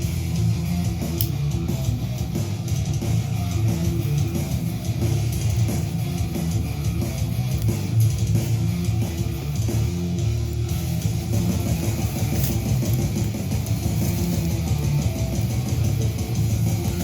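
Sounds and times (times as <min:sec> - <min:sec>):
bass guitar: 0:00.0 - 0:17.0
electric guitar: 0:00.0 - 0:17.0.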